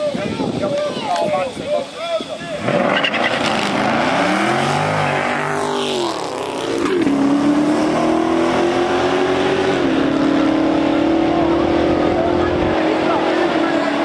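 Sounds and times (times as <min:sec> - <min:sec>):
race car engines accelerating: 0:02.6 - 0:14.0.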